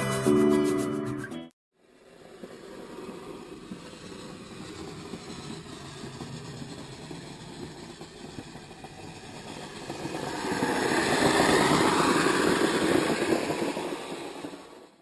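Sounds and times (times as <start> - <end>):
electric motor and tracks running: 1.8 - 15.0.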